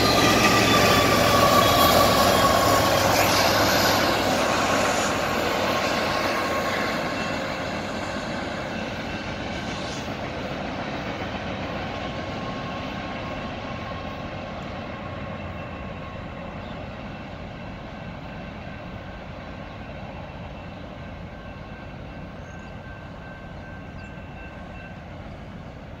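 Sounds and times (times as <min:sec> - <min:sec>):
freight train rumbling on rails: 0:00.0 - 0:26.0.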